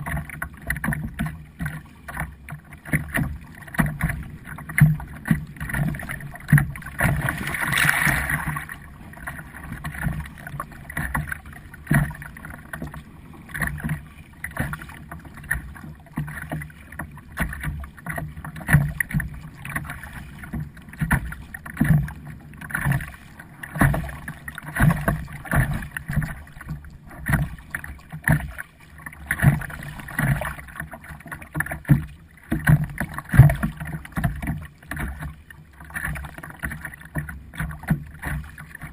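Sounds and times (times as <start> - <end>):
paddle strokes: 0.0 - 38.9
water splashing: 0.0 - 38.9.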